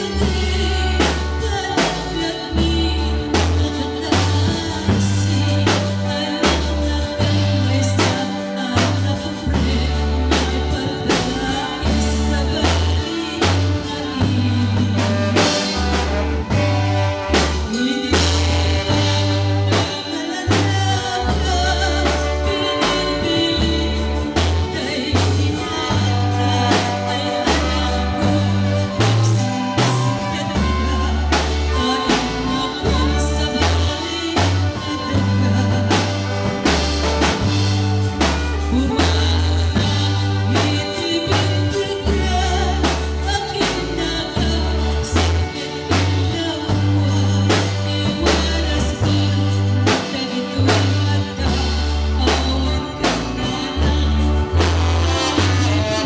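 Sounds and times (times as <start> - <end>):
drum kit beat: 0.0 - 56.0
electric bass: 0.0 - 56.0
woman singing into a microphone: 0.0 - 56.0.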